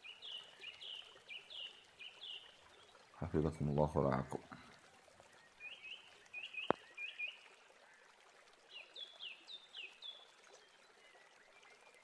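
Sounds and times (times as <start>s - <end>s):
small birds chirping: 0.0s - 8.0s, 8.6s - 12.0s.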